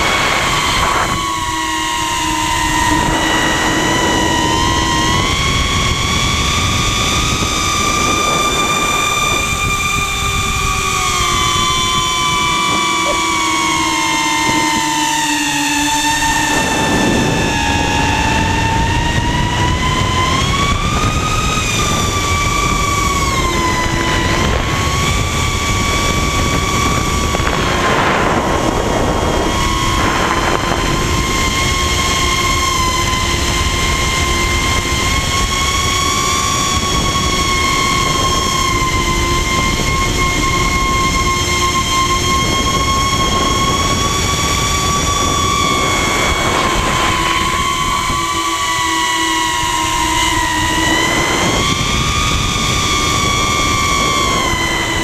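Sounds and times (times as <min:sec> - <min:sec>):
drone motors whining: 0:00.0 - 0:55.0
rushes of air noise: 0:00.0 - 0:55.0.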